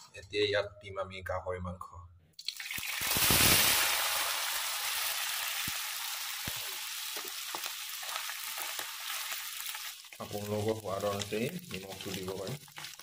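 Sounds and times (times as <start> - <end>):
frying hiss with crackles and pops: 2.4 - 13.0
pork sizzling in hot oil: 2.4 - 13.0.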